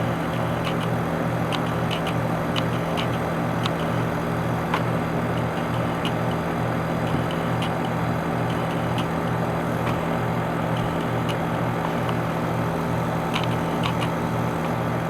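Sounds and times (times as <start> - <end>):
heat pump humming: 0.0 - 15.0
light irregular ticks: 0.2 - 10.1, 10.7 - 12.3, 13.2 - 14.8.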